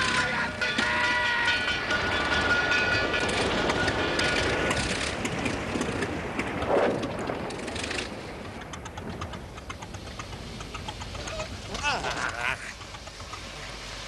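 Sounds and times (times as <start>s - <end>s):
old engine rattling and rumbling: 0.0s - 14.0s.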